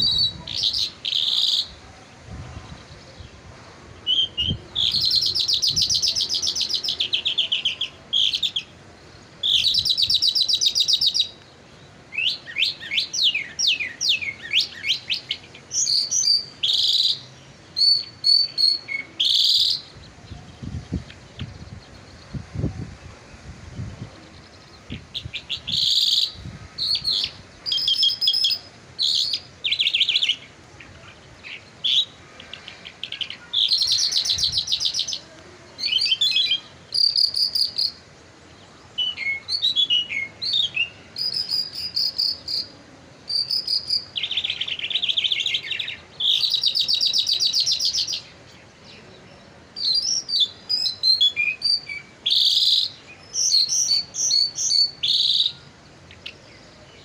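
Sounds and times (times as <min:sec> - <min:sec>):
lark singing trills: 0:00.0 - 0:01.8, 0:04.0 - 0:11.4, 0:12.1 - 0:22.4, 0:24.3 - 0:35.2, 0:35.8 - 0:38.0, 0:39.0 - 0:42.7, 0:43.3 - 0:48.4, 0:49.7 - 0:56.4.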